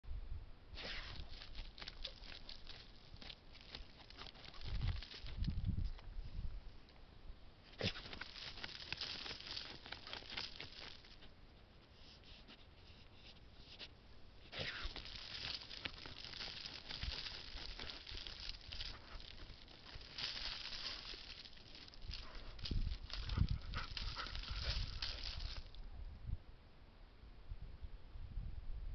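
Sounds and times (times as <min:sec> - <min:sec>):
dog snuffling in dirt: 0:00.8 - 0:06.3, 0:07.7 - 0:25.8.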